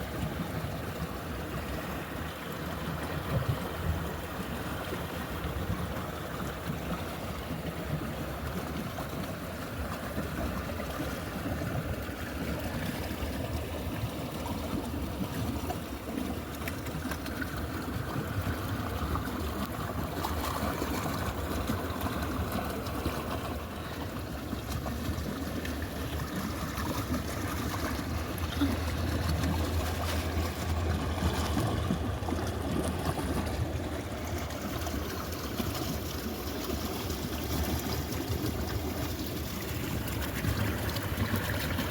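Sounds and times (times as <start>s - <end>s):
water flowing and trickling: 0.0s - 41.9s.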